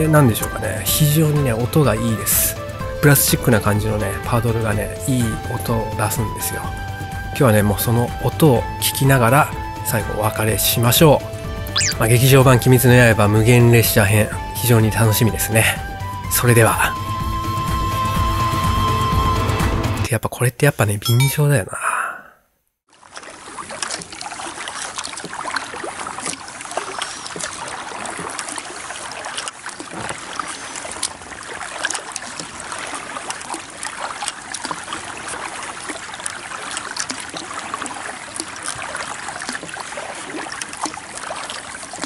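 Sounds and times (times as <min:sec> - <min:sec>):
paddle splashing water: 0:00.0 - 0:16.1, 0:22.9 - 0:42.0.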